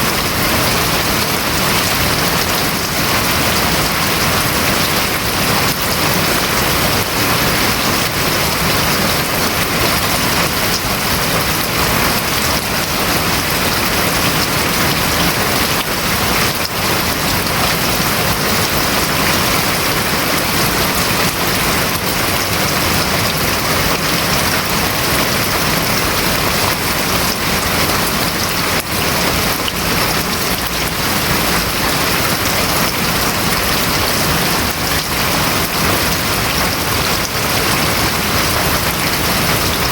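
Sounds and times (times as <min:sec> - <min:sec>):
heavy rain drumming on a roof: 0:00.0 - 0:39.9.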